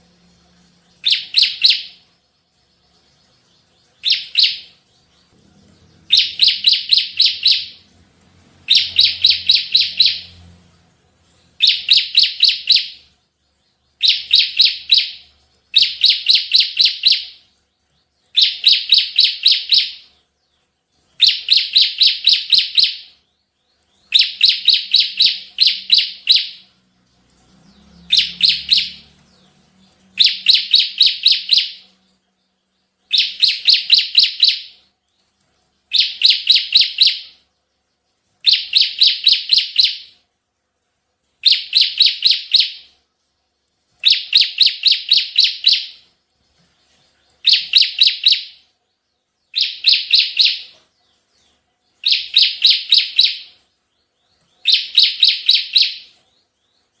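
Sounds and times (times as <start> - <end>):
bird singing rapid high notes: 0.0 - 40.3, 41.4 - 43.1, 44.0 - 57.0.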